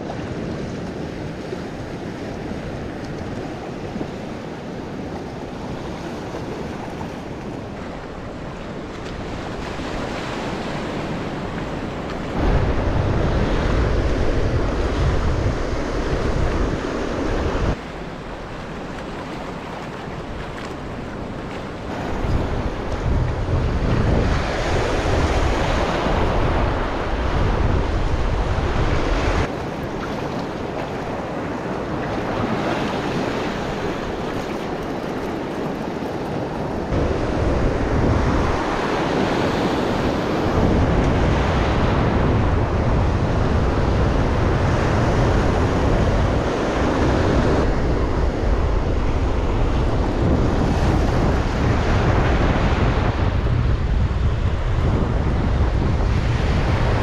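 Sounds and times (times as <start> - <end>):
ocean surf breaking: 0.0 - 57.0
wind buffeting microphone: 0.0 - 57.0.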